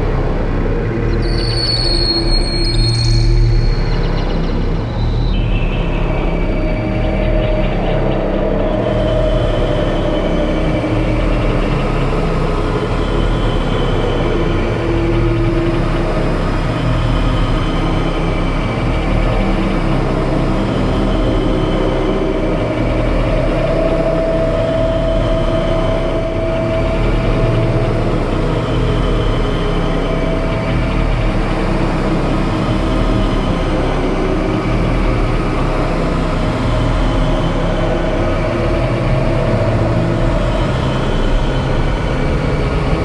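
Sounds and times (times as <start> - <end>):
experimental drone music: 0.0 - 43.0.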